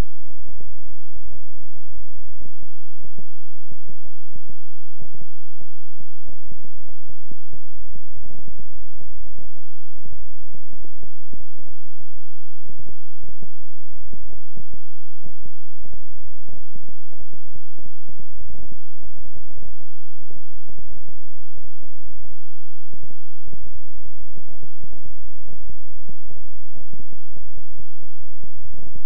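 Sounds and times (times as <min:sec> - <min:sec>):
low electronic hums: 0:00.0 - 0:29.0.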